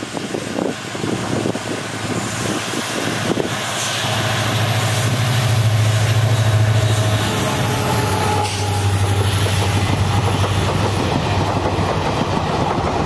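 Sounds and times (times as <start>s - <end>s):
locomotive engine passing: 0.1s - 13.0s.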